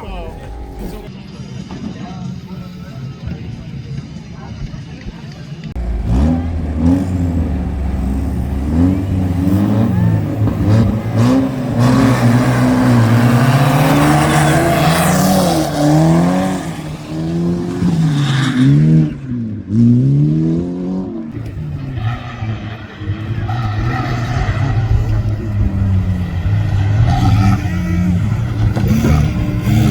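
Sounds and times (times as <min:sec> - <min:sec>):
racing car engines revving: 0:00.0 - 0:01.8, 0:05.2 - 0:29.9.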